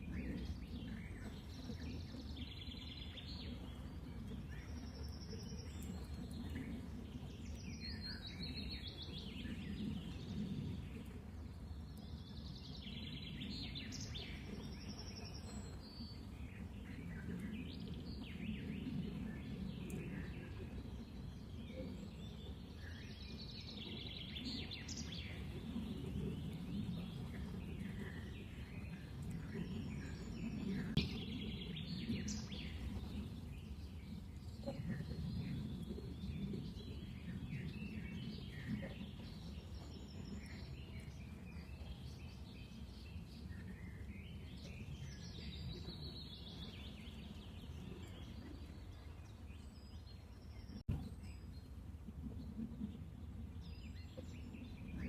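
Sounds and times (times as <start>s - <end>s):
small birds chirping: 0.0s - 51.8s.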